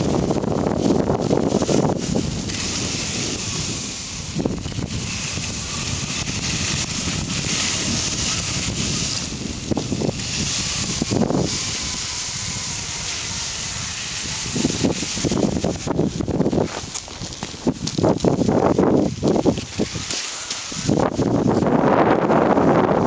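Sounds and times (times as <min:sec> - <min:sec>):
skis hissing over snow: 0:00.0 - 0:22.0
wind rushing over microphone: 0:00.0 - 0:23.0.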